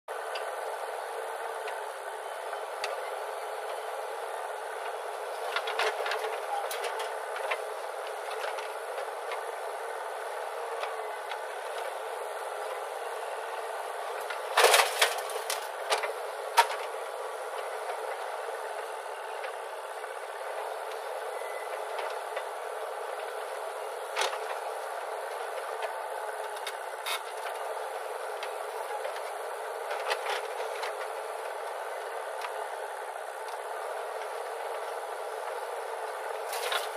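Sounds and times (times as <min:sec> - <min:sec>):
backhoe loader running: 0:00.1 - 0:36.9.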